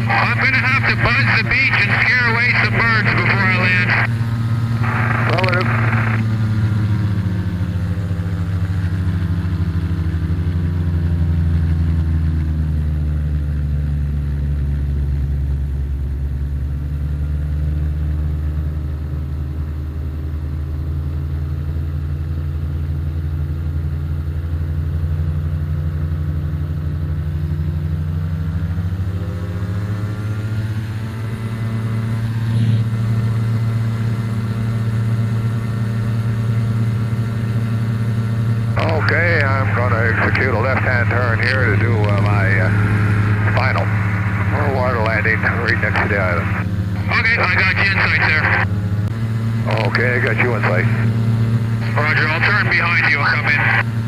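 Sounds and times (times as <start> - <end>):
ultralight aircraft engine: 0.0 - 54.0.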